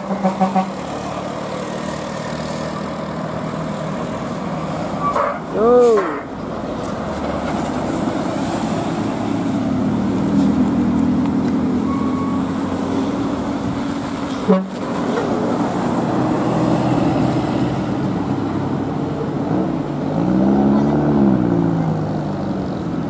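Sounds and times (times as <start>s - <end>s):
bus diesel engines passing: 0.0s - 23.0s.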